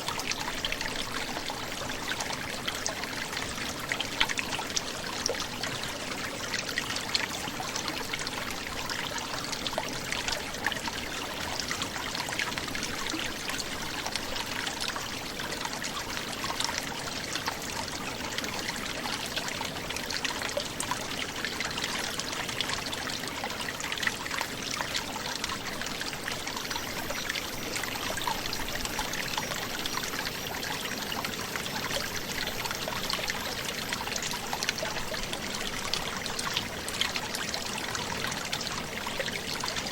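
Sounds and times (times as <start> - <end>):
brook gurgling and trickling: 0.0 - 39.9.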